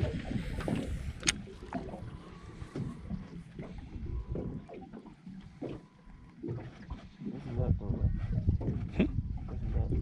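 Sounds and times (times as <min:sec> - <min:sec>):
waves lapping against boat hull: 0:00.0 - 0:10.0.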